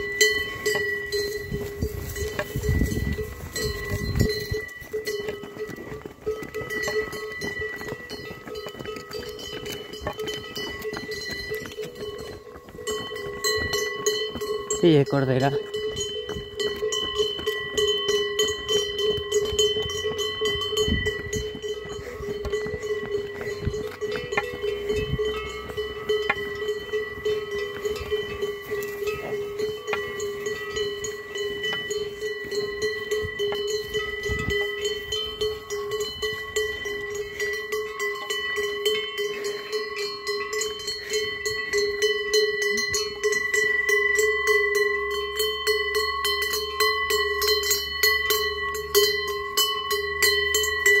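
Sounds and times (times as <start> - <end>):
cowbells clanging: 0.0 - 51.0.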